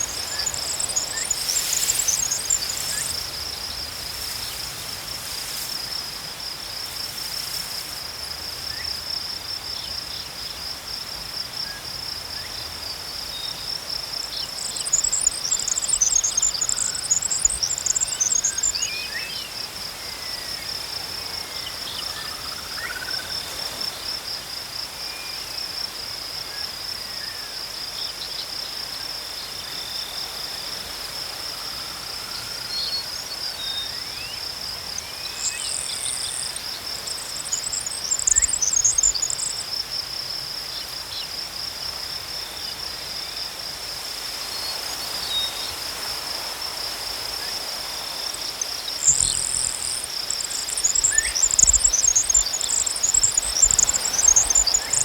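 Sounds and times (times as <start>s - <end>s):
crickets chirping: 0.0s - 55.0s
lower steady insect note: 0.0s - 55.0s.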